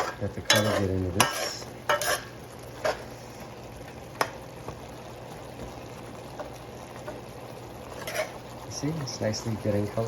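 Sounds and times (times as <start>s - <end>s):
food bubbling and sizzling: 0.0s - 10.0s.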